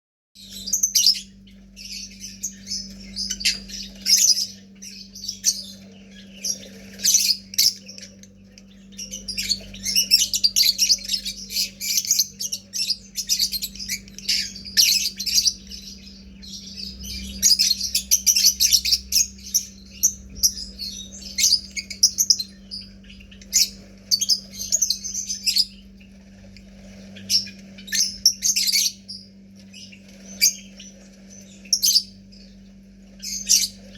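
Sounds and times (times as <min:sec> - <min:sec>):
faint low hum: 0:00.4 - 0:33.9
lovebirds chirping and squawking: 0:00.4 - 0:33.9.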